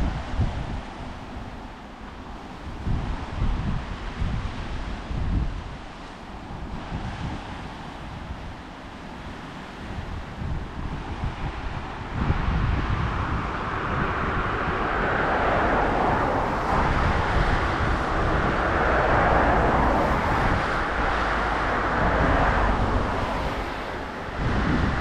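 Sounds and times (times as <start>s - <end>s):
road noise: 0.0s - 25.0s
wind rush over microphone: 0.0s - 25.0s.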